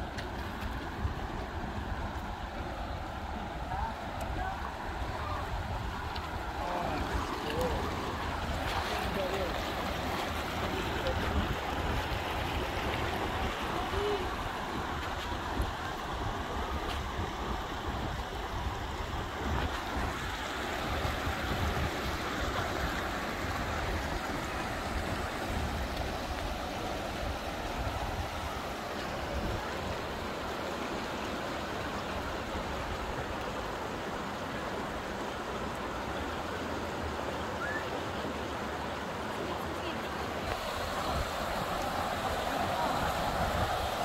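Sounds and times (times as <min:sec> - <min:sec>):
creek water rushing over rocks: 0:00.0 - 0:44.0.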